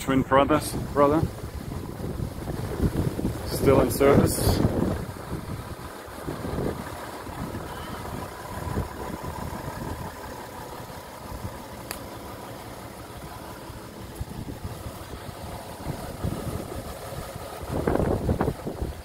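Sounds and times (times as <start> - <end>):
wind buffeting microphone: 0.0 - 11.6, 14.0 - 19.0
engine idling: 0.0 - 19.0.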